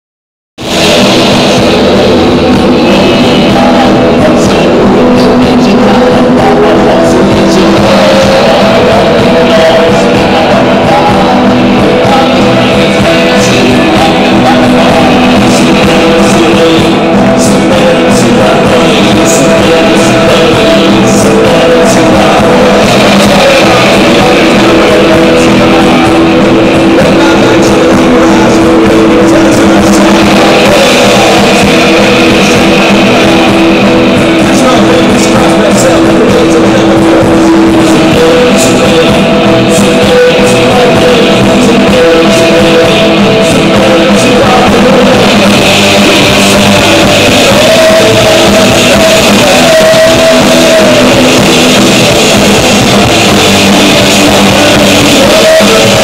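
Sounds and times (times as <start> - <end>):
bass guitar: 0.0 - 56.0
drums: 0.6 - 56.0
electric guitar: 0.6 - 56.0
man singing: 0.6 - 56.0.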